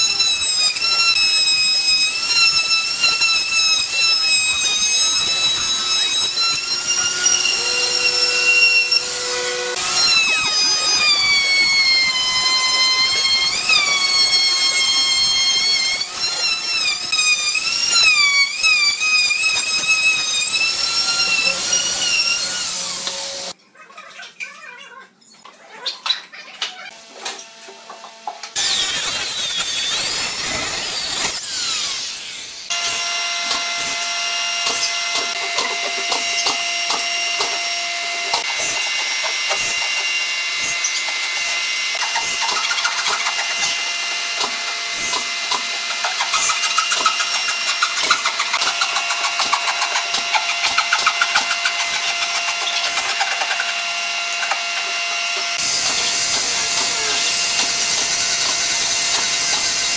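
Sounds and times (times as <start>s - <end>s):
angle grinder running: 0.0s - 23.6s, 28.6s - 59.9s
hand saw cutting wood: 0.0s - 23.6s, 27.2s - 59.9s.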